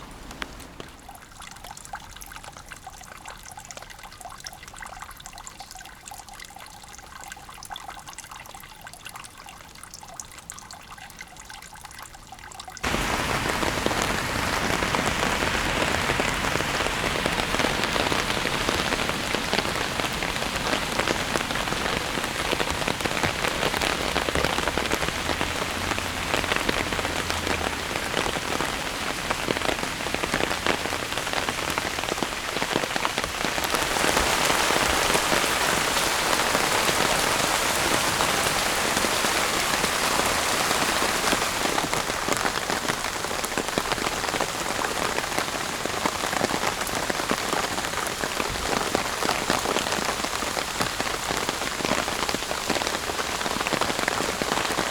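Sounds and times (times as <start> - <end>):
heavy rain downpour: 0.0 - 2.6, 12.8 - 54.9
raindrops pattering close by: 0.0 - 54.9.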